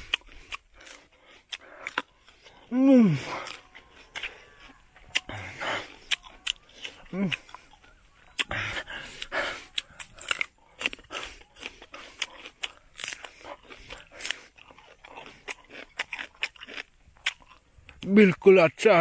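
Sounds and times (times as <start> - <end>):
crunching and chewing fruit: 0.0 - 19.0.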